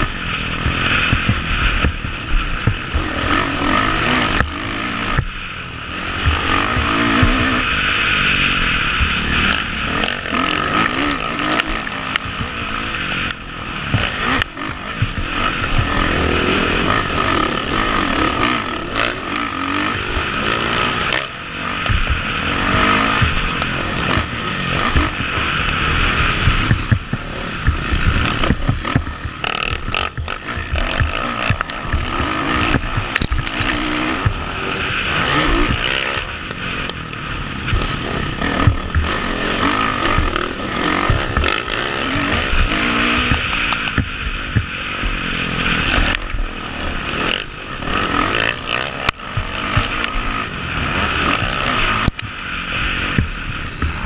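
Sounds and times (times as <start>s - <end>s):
dirt bike engine revving: 0.0s - 54.0s
wind noise on camera: 0.0s - 54.0s.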